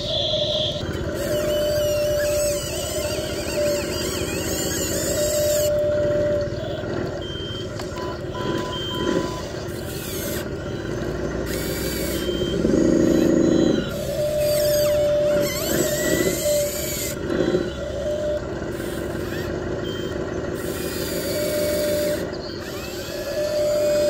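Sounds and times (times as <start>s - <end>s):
short electronic beeps: 0.0s - 20.4s
electric motor whine: 0.0s - 24.0s
simulated engine sound: 0.0s - 24.0s.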